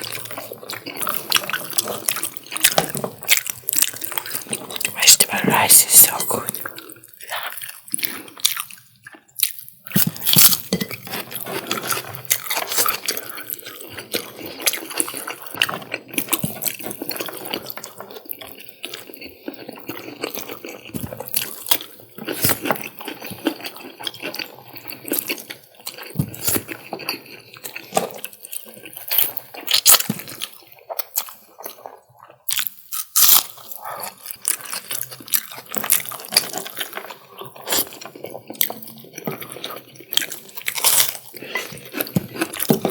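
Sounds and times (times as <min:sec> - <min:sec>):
chewing and wet mouth clicks: 0:00.0 - 0:10.5, 0:11.9 - 0:42.8.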